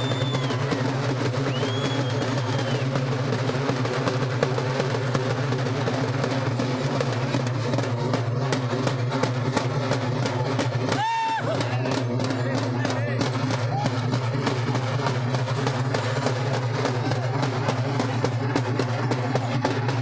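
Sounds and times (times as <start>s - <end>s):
barrel drums beaten fast: 0.0s - 20.0s.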